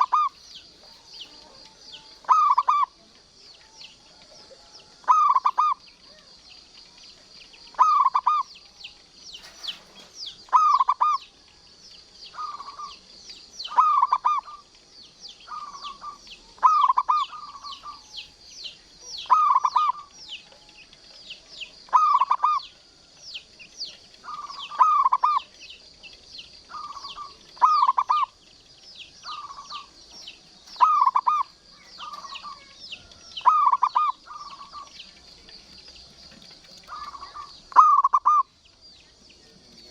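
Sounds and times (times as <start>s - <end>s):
dove cooing: 0.0s - 11.6s, 12.3s - 14.8s, 15.4s - 38.6s
birds chirping high-pitched: 0.0s - 39.9s.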